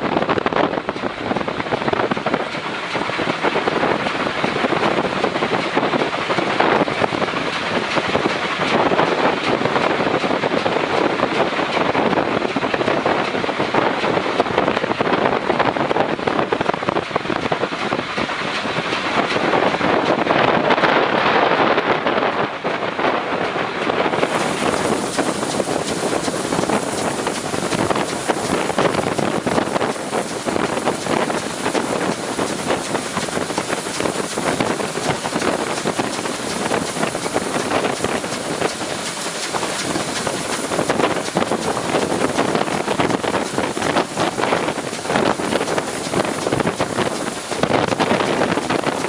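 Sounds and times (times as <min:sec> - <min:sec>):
train rushing and clattering: 0:00.0 - 0:49.0
wind on microphone: 0:00.0 - 0:49.0.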